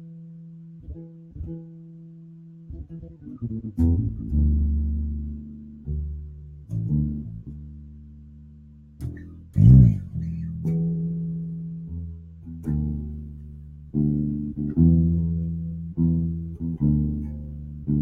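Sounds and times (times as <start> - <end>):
electric bass guitar notes: 0.0 - 18.0.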